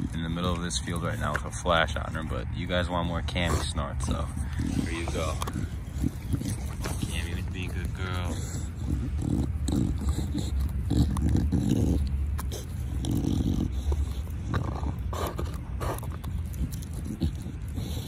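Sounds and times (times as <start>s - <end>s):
dog snorting and grunting: 0.0s - 18.0s.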